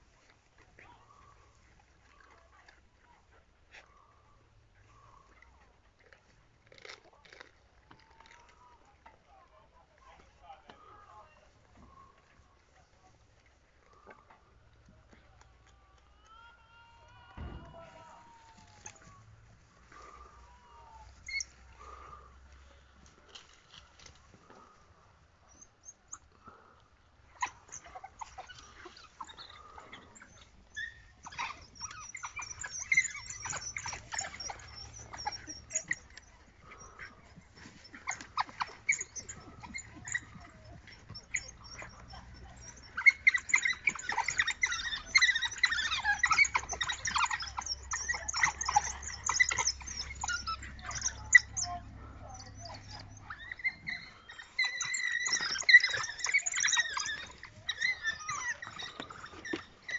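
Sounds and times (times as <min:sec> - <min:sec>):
wild dogs twittering calls: 0:00.0 - 0:05.8, 0:06.8 - 0:15.6, 0:16.2 - 0:59.9.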